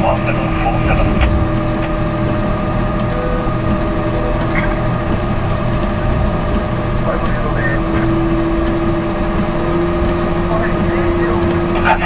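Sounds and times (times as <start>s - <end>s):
towing tractor engine droning: 0.0s - 12.0s.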